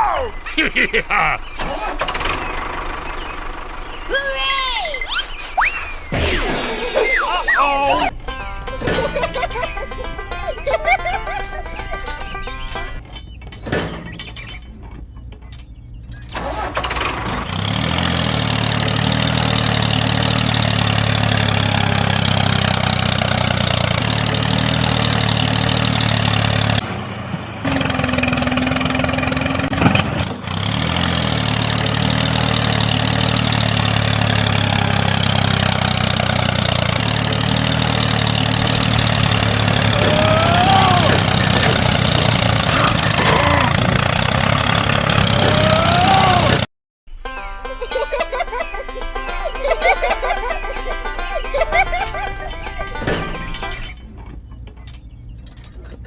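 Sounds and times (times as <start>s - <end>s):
small tractor motor running: 7.8s - 14.3s, 15.0s - 46.7s, 47.7s - 55.1s.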